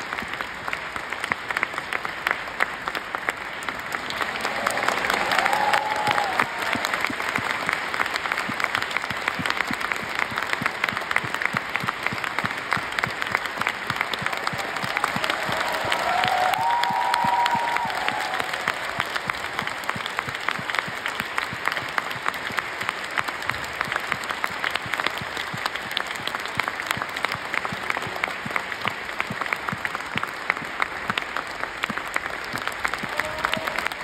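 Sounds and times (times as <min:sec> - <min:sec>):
audience applauding: 0:00.0 - 0:34.0
sharp close claps: 0:00.0 - 0:34.0.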